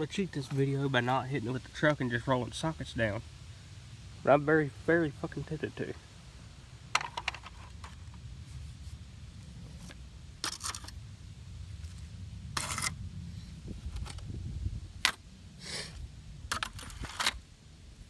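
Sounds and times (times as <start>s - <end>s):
low rumble of handling noise: 0.0s - 18.0s.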